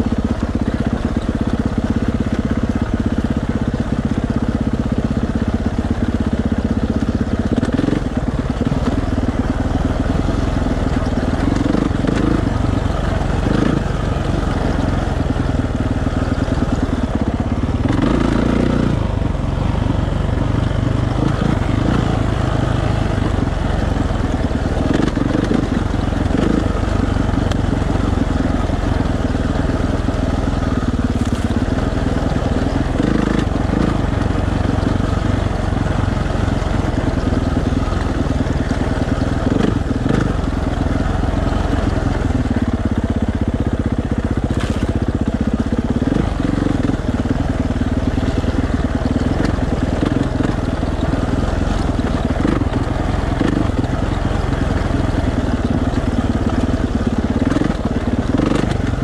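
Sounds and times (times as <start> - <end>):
dirt bike engine at low revs: 0.0 - 59.0.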